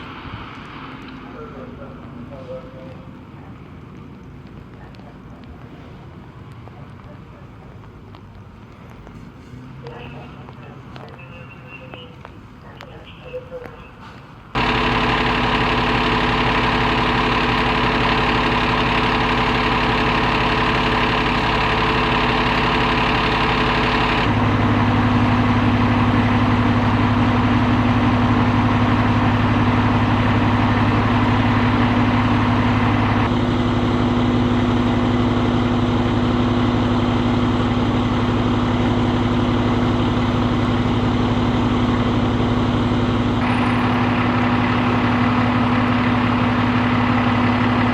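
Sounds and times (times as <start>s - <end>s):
diesel engines idling: 0.0s - 47.9s.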